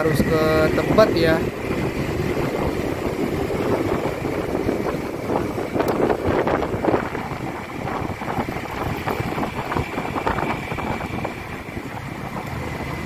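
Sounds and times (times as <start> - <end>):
motorcycle running: 0.0 - 13.0
road noise: 0.0 - 13.0
wind buffeting microphone: 0.0 - 13.0.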